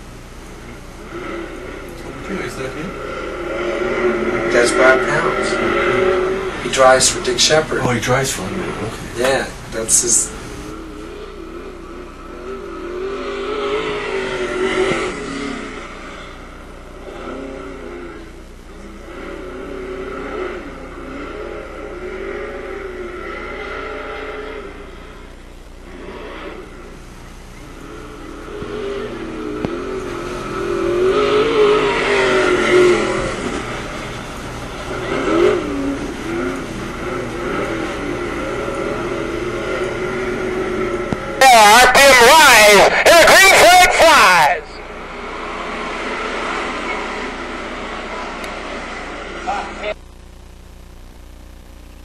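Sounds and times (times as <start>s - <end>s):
race car engine running hard: 0.0s - 52.0s.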